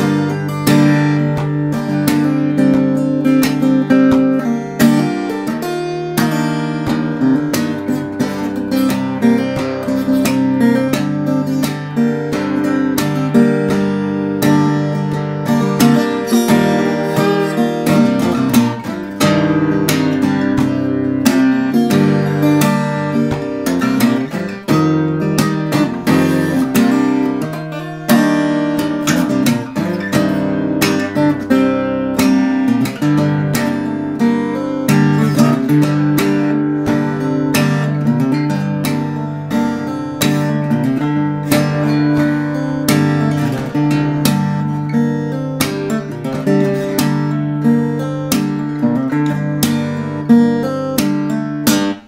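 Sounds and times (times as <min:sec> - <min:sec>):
fingerstyle acoustic guitar: 0:00.0 - 0:52.0
strummed guitar chords: 0:00.0 - 0:52.0.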